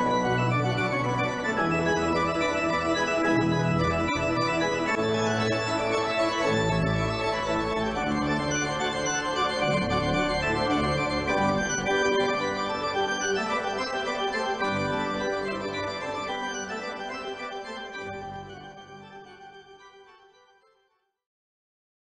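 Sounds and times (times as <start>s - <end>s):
organ playing sustained chords: 0.0s - 20.3s.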